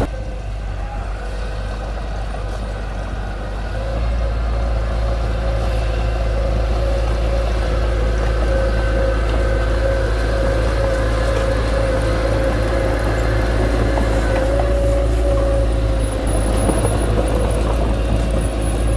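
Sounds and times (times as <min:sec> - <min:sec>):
diesel engine running: 0:00.0 - 0:18.9
steady mechanical whine: 0:00.0 - 0:18.9.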